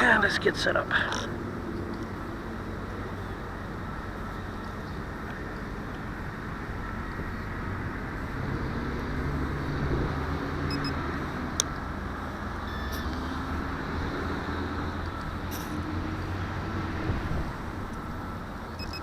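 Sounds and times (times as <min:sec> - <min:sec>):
distant road traffic: 0:00.0 - 0:19.0
passing vehicles humming: 0:00.0 - 0:19.0
wind: 0:00.0 - 0:19.0.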